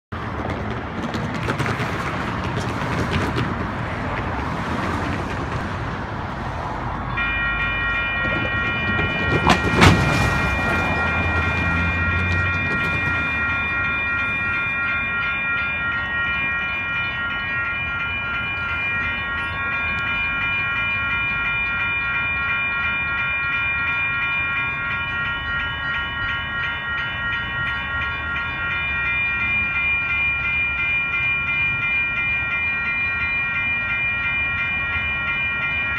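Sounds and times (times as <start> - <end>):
road traffic: 0.1 - 35.9
crossing electronic bells ringing: 6.4 - 35.9.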